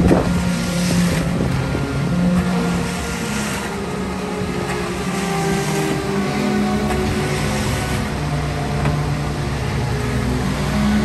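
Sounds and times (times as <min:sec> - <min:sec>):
heavy machinery engine running: 0:00.0 - 0:11.0.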